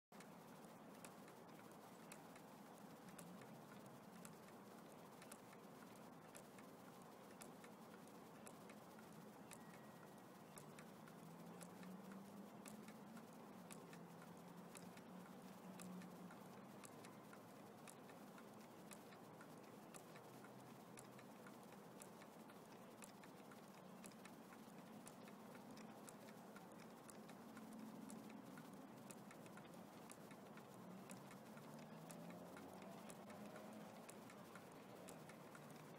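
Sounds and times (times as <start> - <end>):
faint engine ticks: 0.1 - 35.9.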